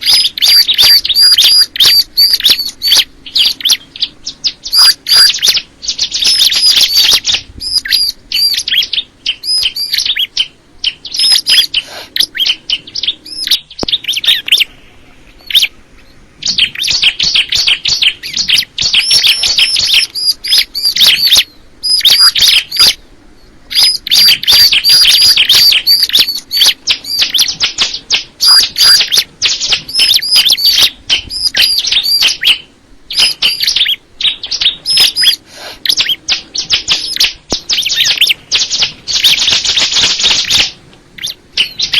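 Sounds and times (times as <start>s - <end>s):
bird singing high chirps: 0.0s - 41.9s.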